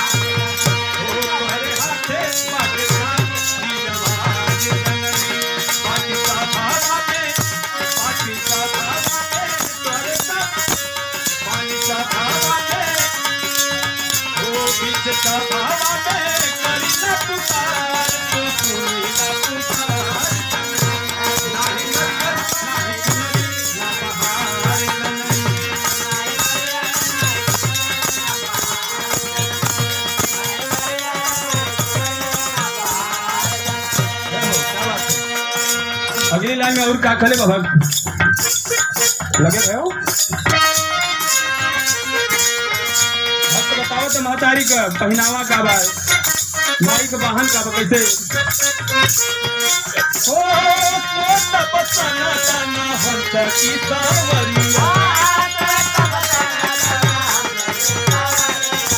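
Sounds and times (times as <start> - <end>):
instrumental accompaniment: 0.0 - 58.9
man singing through microphone: 0.0 - 58.9.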